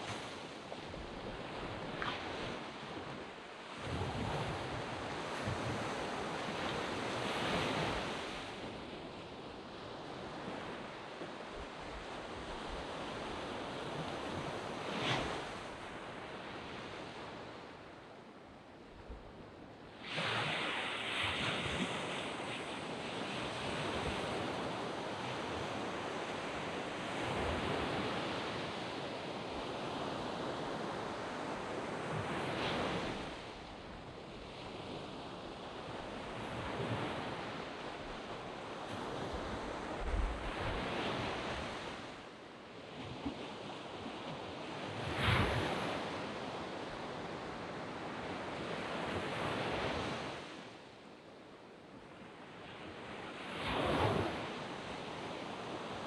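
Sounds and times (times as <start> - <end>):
waves washing on sand beach: 0.0 - 17.9, 19.7 - 50.9, 52.1 - 56.0.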